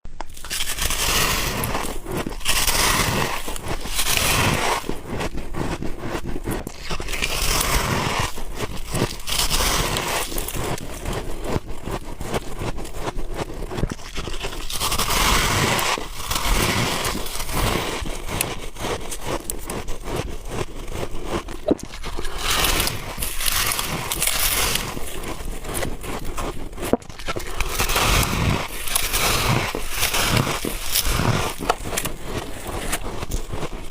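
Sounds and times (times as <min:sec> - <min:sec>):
chewing crunchy ice: 0:00.2 - 0:33.9.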